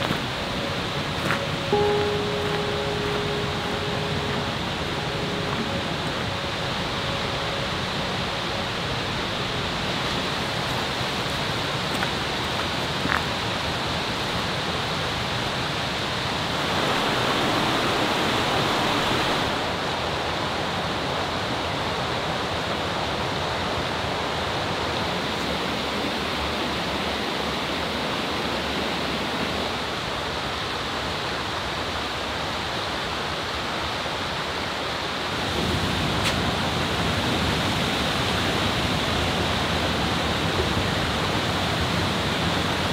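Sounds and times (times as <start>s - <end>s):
stream rushing over rocks: 0.0s - 42.9s.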